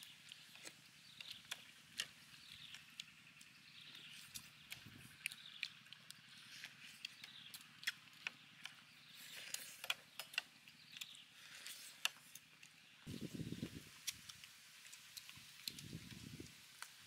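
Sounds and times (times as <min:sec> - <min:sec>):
people chewing and lip smacking: 0:00.0 - 0:17.0.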